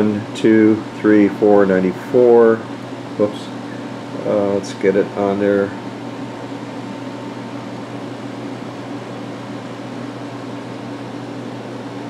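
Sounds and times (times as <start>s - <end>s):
fan whirring: 0.0s - 12.0s
low equipment hum: 0.0s - 12.0s.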